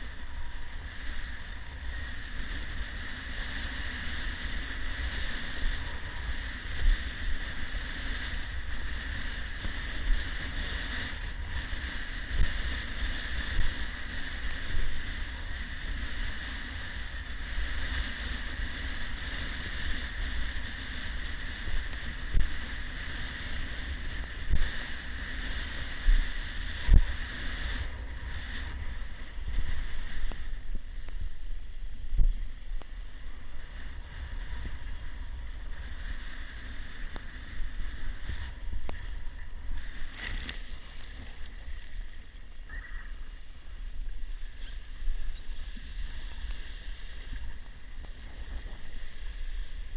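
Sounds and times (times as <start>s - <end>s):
wind buffeting microphone: 0.0s - 49.9s
sea waves breaking: 0.1s - 49.9s.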